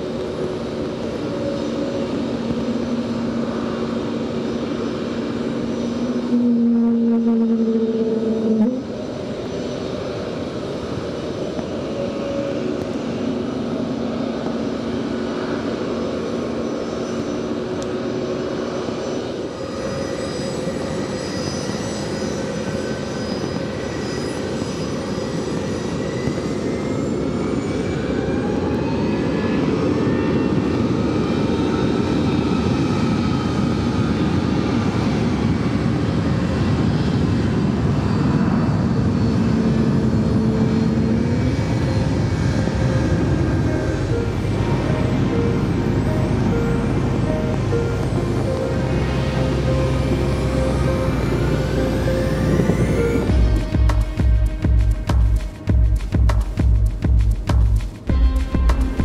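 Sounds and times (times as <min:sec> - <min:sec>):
engine whine rising in pitch: 0:00.0 - 0:59.0
jet engines humming: 0:00.0 - 0:59.0.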